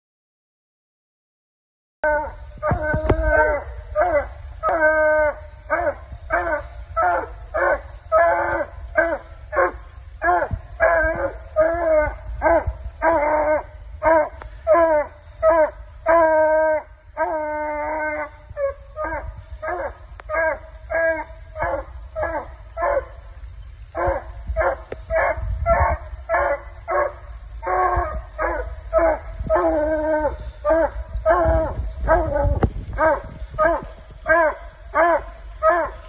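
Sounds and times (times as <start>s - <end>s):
dog bawling: 2.1s - 23.1s, 24.0s - 36.0s
puppies barking: 2.1s - 36.0s.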